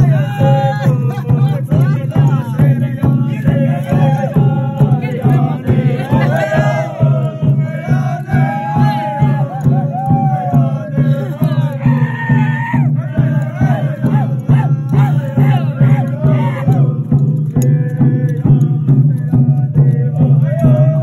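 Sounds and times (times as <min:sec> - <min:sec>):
group singing a chant: 0:00.0 - 0:21.0
sharp rhythmic beats: 0:00.0 - 0:21.0.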